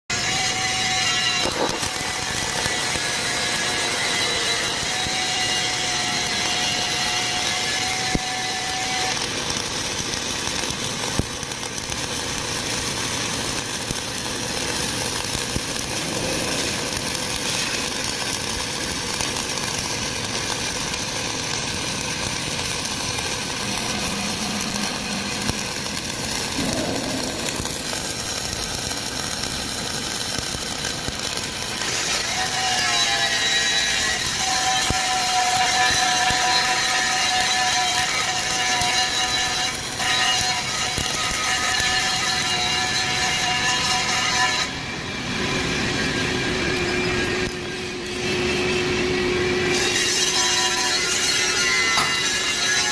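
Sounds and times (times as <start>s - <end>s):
welding arc hissing crackle: 0.1s - 52.9s.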